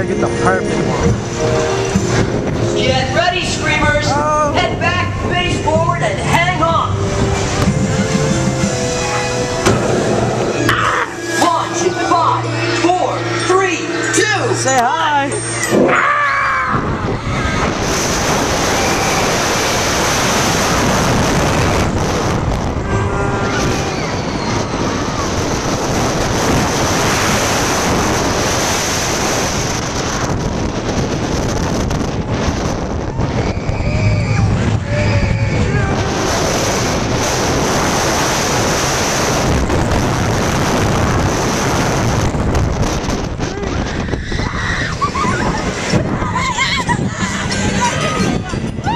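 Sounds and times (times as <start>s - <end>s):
wind rushing over microphone: 0.0s - 10.7s, 15.7s - 48.9s
roller coaster racing along track: 0.0s - 48.9s.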